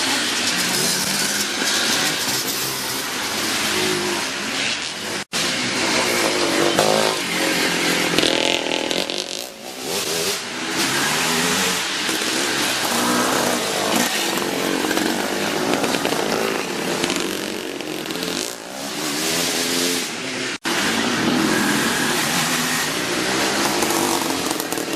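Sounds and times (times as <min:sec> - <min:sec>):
motocross motorcycles racing: 0:00.0 - 0:24.9.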